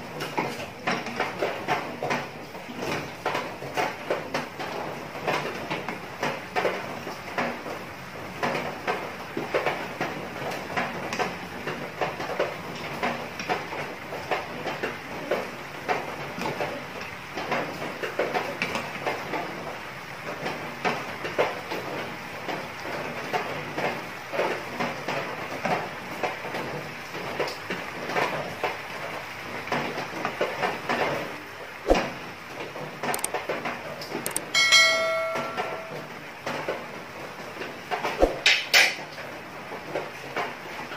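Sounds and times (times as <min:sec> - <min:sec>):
sauce boiling in a frying pan: 0:00.0 - 0:34.1.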